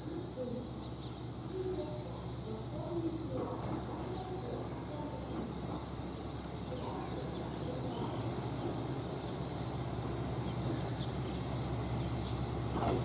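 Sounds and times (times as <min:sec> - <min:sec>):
faint voices: 0:00.0 - 0:13.0
train humming: 0:00.0 - 0:13.0.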